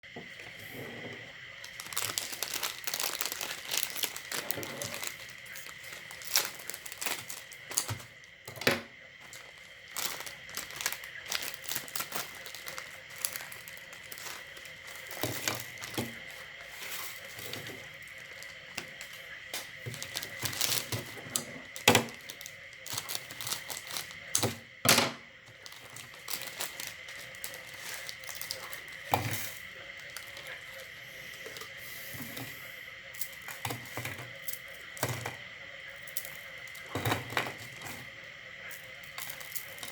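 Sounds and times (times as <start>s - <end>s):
crinkling and crackling snack: 0.0s - 39.9s.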